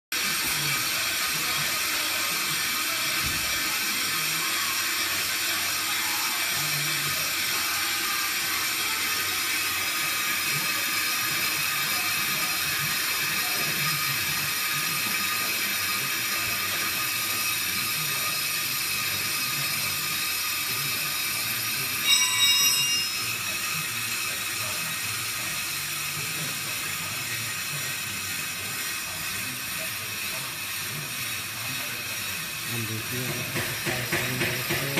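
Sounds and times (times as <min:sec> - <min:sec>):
brake lathe whining: 0:00.2 - 0:34.9.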